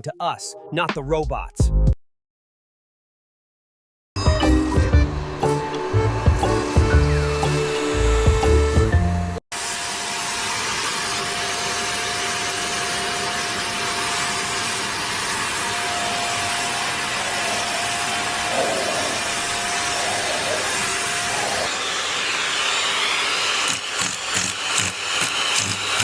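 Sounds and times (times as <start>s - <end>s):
vacuum cleaner running: 4.2s - 26.0s.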